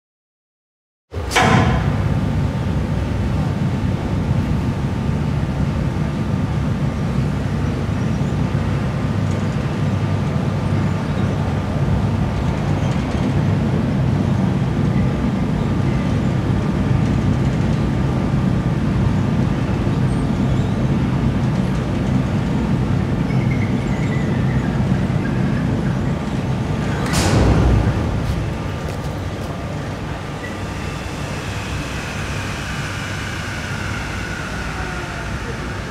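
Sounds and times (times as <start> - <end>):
factory machinery rumble: 1.1 - 35.9.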